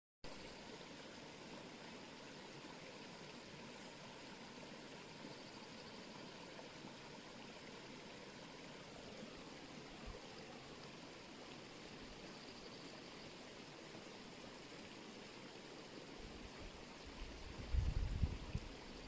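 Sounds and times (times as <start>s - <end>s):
faint stream flowing: 0.2s - 19.0s.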